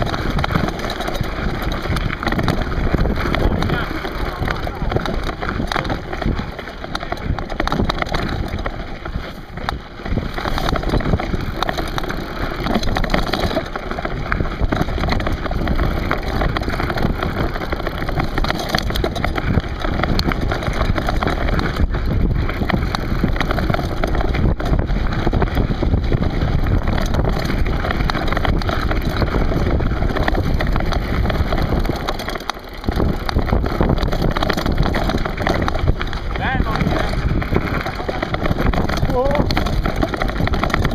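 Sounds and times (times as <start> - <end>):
bike knocking: 0.0 - 40.9
tyres crunching over stones: 0.0 - 40.9
wind buffeting microphone: 0.0 - 40.9.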